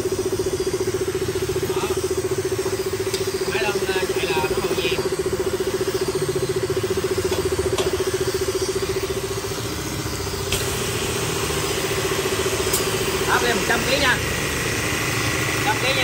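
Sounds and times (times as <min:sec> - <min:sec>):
pressure-washer pump humming: 0:00.0 - 0:16.0.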